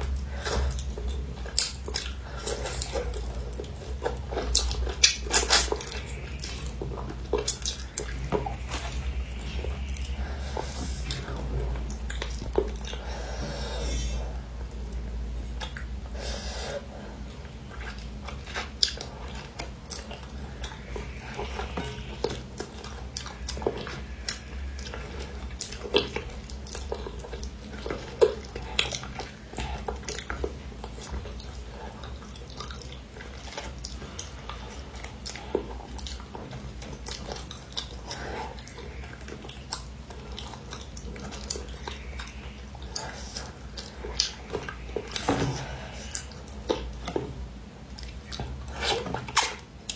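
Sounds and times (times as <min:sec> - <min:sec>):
wet chewing and lip-smacking: 0:00.0 - 0:49.9.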